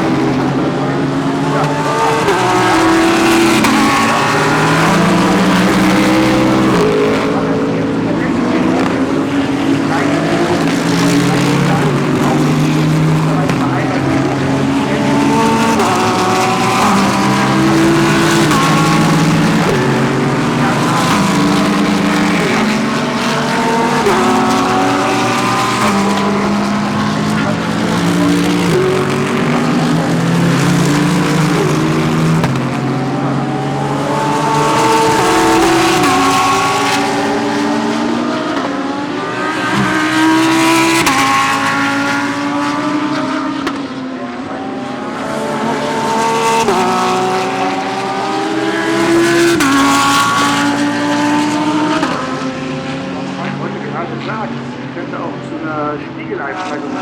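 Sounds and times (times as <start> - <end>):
race cars downshifting and accelerating: 0.0 - 57.0.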